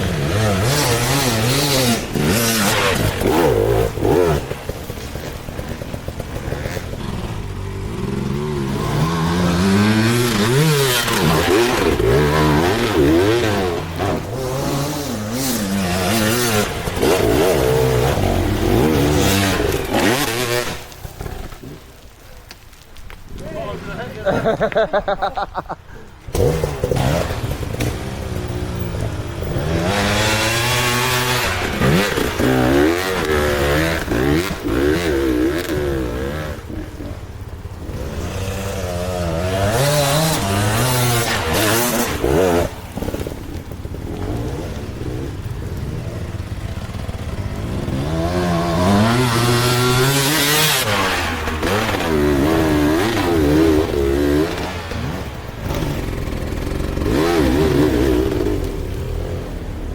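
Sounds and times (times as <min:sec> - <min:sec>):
two-stroke dirt bike engine revving: 0:00.0 - 0:21.8, 0:26.3 - 0:59.9.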